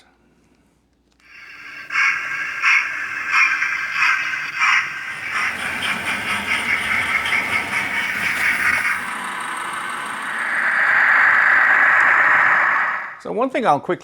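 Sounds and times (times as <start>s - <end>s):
steam hiss: 1.3s - 13.3s
steam locomotive exhaust chuffs: 1.3s - 13.3s.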